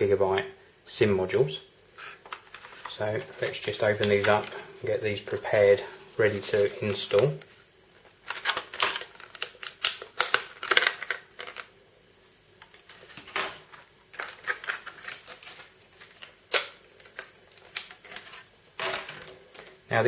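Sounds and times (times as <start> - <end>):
plastic packaging crackling: 2.3 - 11.8, 12.6 - 19.8.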